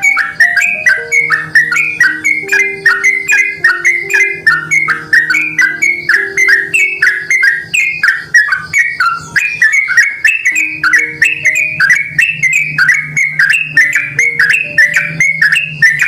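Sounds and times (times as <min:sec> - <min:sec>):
bird singing warbled phrases: 0:00.0 - 0:16.0.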